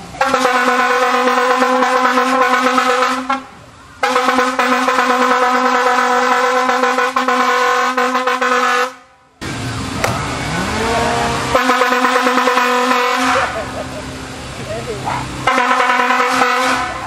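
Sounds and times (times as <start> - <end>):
air horn blasts: 0.2 - 9.2, 10.5 - 13.7, 15.4 - 17.0.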